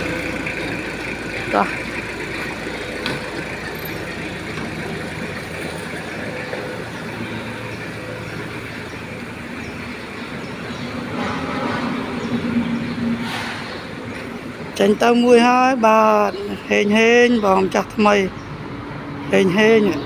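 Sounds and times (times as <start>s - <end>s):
jeep engine running: 0.0s - 20.0s.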